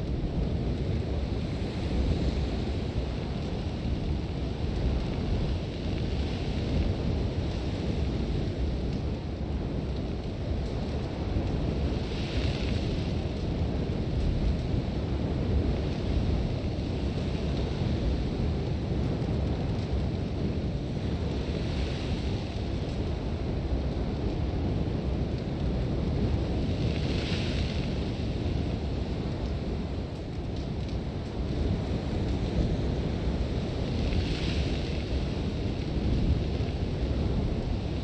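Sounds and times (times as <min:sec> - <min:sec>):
deep rush of wind: 0:00.0 - 0:38.0.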